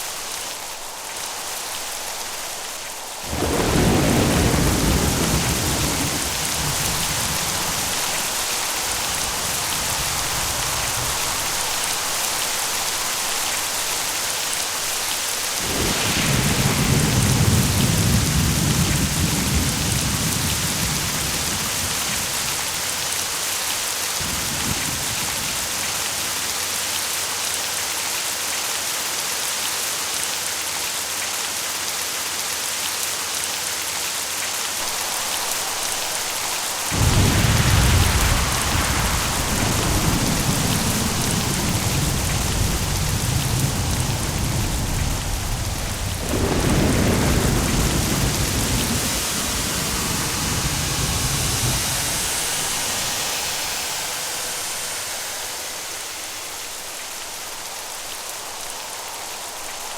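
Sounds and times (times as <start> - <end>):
thunder rumbling: 0.0 - 23.3, 24.2 - 26.2, 34.8 - 59.8
steady rain: 0.0 - 59.9.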